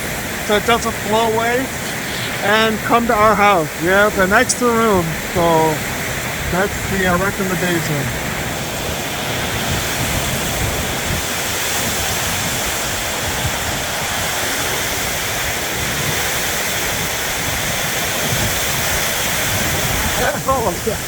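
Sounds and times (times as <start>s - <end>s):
heavy rain on a metal roof: 0.0s - 21.0s.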